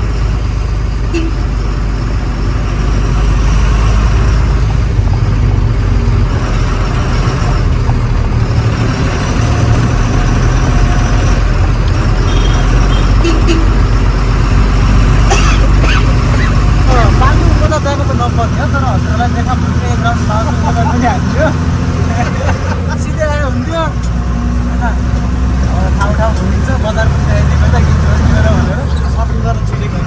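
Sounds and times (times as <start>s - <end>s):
road noise rumble: 0.0s - 30.0s
truck diesel engine running: 0.0s - 30.0s.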